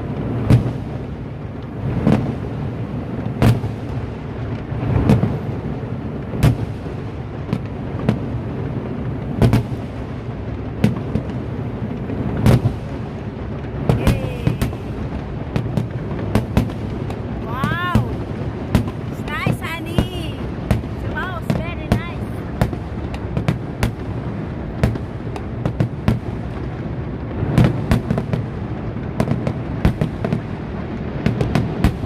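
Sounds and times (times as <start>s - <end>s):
fireworks bangs: 0.0s - 32.0s.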